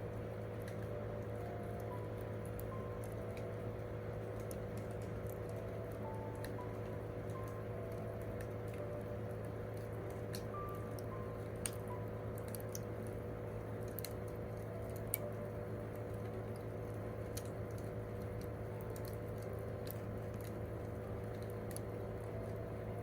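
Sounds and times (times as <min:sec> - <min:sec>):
campfire crackling: 0:00.0 - 0:23.0
fire popping: 0:00.0 - 0:23.0
steady low hum: 0:00.0 - 0:23.0.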